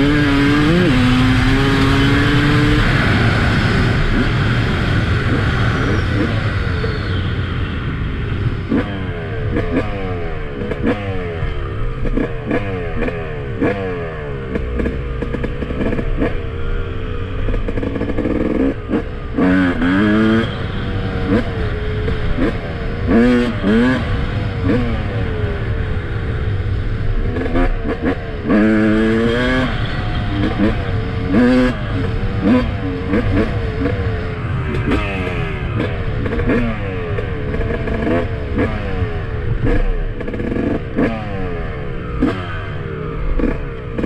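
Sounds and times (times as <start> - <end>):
two-stroke engine revving: 0.0 - 7.2, 8.4 - 44.0.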